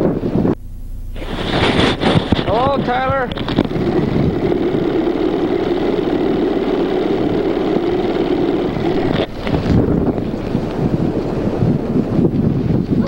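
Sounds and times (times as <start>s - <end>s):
blizzard wind buffeting microphone: 0.0s - 13.0s.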